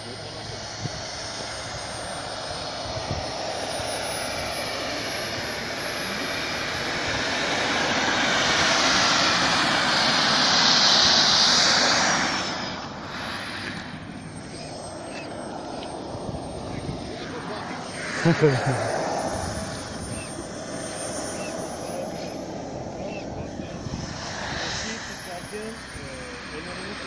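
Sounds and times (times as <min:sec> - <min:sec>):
model jet turbine whine: 0:00.0 - 0:27.0.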